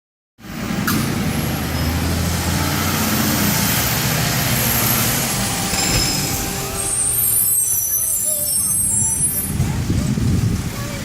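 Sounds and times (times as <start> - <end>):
garbage truck engine running: 0.5 - 10.8.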